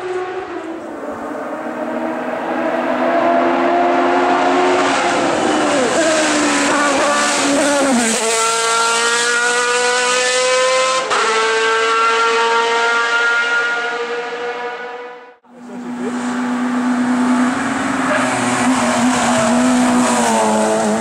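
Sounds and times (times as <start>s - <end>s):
race car engine: 0.0s - 21.0s.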